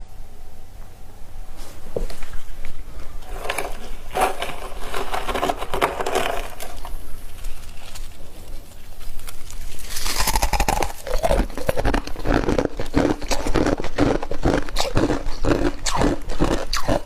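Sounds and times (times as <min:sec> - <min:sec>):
ice crunching and crackling: 0:03.3 - 0:17.0.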